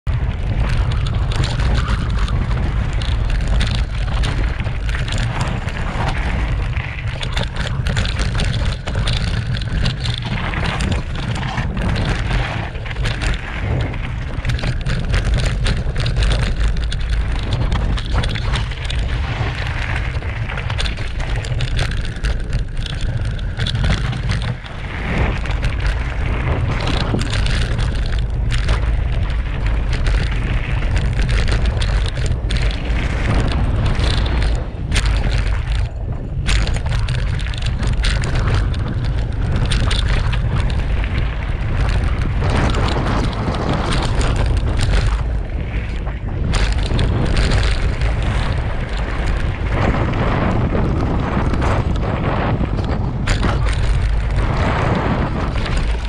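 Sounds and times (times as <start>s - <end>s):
bike rattling and knocking: 0.0s - 56.0s
wind rumble on microphone: 0.0s - 56.0s
tyres crunching over stones: 0.1s - 56.0s.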